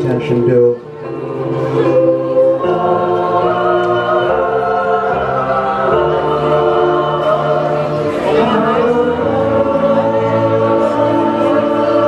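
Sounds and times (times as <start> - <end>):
choir singing sustained chords: 0.0 - 12.0.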